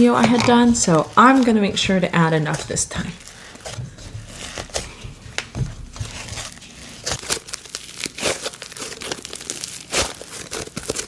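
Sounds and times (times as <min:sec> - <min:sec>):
slime crackling and squishing: 0:00.0 - 0:11.0.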